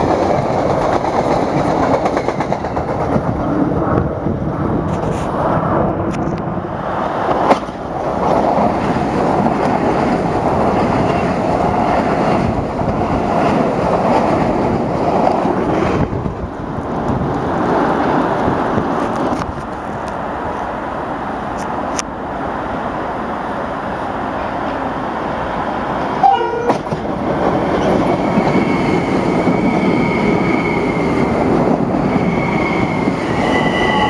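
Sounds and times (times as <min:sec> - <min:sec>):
train wheels rumbling on rails: 0:00.0 - 0:22.1, 0:23.6 - 0:34.0.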